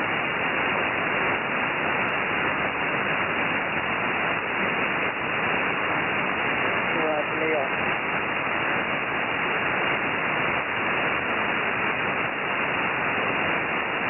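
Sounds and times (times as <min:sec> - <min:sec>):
shortwave radio static hiss: 0:00.0 - 0:14.0.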